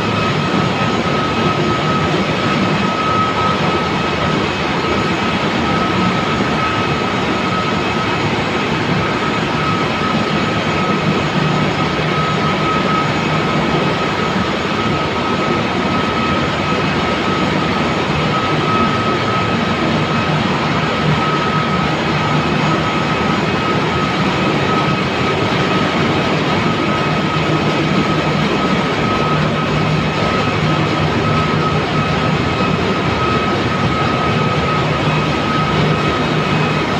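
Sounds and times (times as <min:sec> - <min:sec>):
high machinery whine: 0:00.0 - 0:36.9
low machinery hum: 0:00.0 - 0:36.9
ship engine room machinery: 0:00.0 - 0:36.9.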